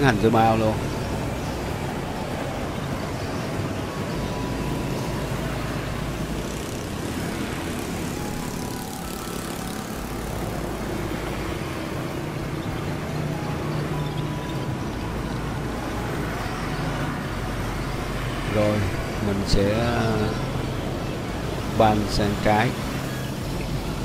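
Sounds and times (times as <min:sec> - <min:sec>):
cars and motorbikes passing: 0:00.0 - 0:24.0.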